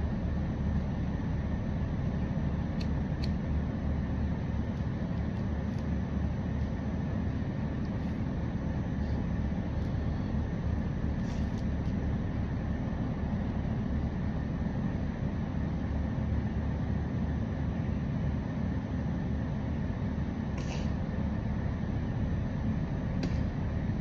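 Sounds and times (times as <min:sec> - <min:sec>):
low rumble and hum: 0:00.0 - 0:24.0.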